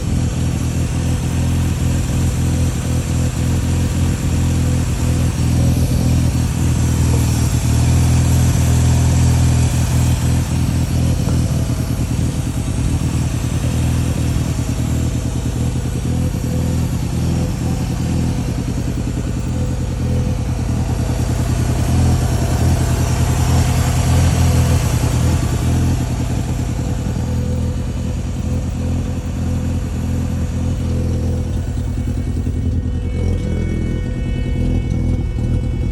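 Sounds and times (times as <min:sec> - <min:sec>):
rotary engine idling: 0:00.0 - 0:35.9.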